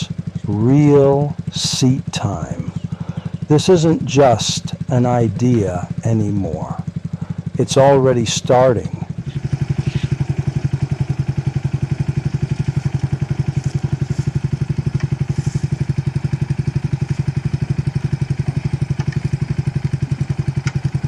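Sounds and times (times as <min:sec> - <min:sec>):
buggy engine idling: 0:00.0 - 0:21.0.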